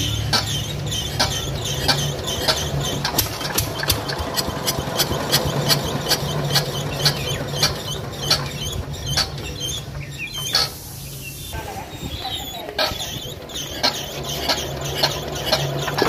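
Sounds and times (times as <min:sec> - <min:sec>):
diesel engine knocking unevenly: 0:00.0 - 0:10.8, 0:12.1 - 0:16.0.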